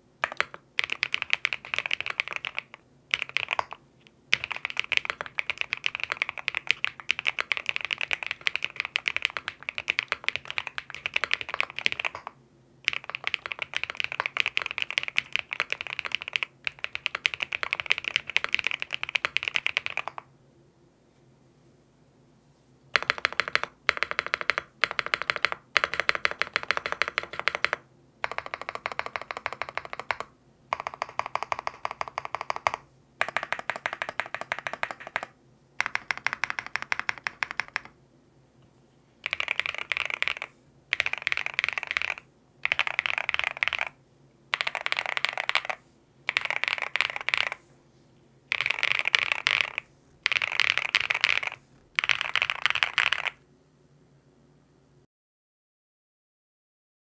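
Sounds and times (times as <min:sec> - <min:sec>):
mechanical keyboard typing: 0:00.2 - 0:20.3, 0:23.0 - 0:37.9, 0:39.2 - 0:47.6, 0:48.5 - 0:53.4.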